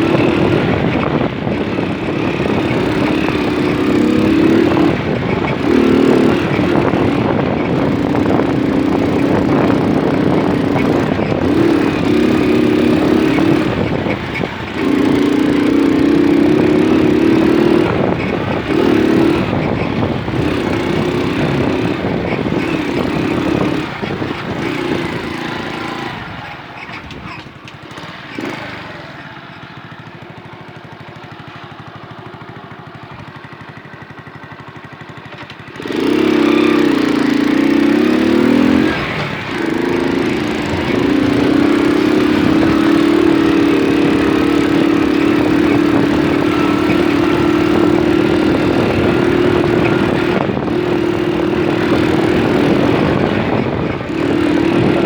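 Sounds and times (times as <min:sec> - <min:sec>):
moped engine running: 0:00.0 - 0:55.0
wind and road noise: 0:00.0 - 0:55.0.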